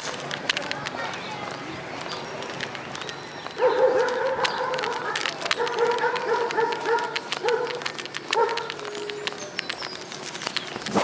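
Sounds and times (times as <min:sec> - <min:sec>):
sharp clicks: 0:00.0 - 0:11.0.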